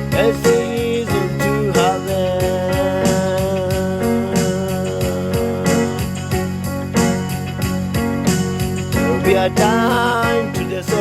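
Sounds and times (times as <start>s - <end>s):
gospel instrumental music: 0.0s - 11.0s.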